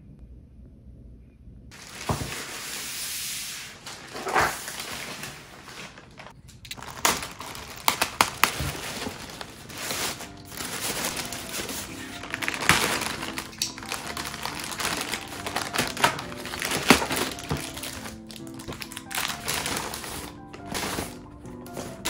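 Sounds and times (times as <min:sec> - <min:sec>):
plastic bag crinkling: 0:01.8 - 0:22.0
plastic bag tearing: 0:01.8 - 0:22.0.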